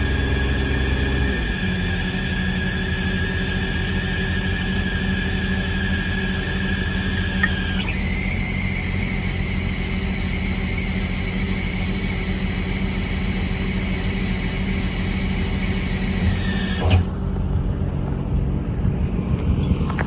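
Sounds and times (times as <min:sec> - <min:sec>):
engine running: 0:00.0 - 0:20.0
hydraulic pump whine: 0:00.0 - 0:20.0.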